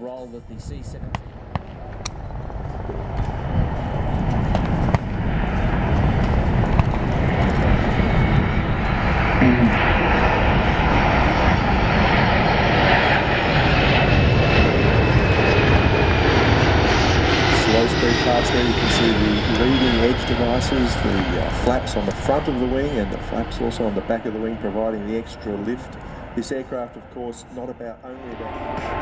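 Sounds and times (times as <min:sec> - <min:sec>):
jet aircraft flying overhead: 0:00.0 - 0:29.0.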